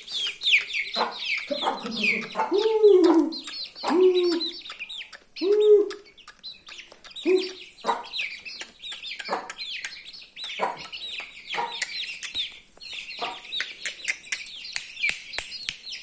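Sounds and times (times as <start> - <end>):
chicken clucking: 0.0 - 15.6
chicks peeping: 0.0 - 16.0.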